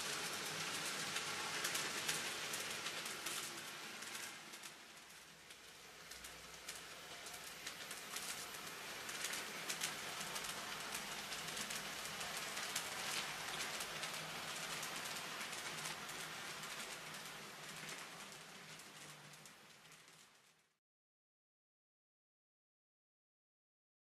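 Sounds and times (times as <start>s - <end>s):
model train clicking on track: 0.0s - 20.6s.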